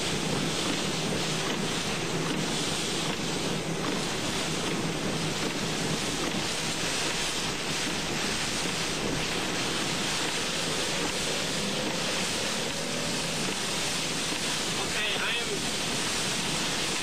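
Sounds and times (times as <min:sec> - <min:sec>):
high winds: 0:00.0 - 0:17.0
rain beating on a car: 0:00.0 - 0:17.0.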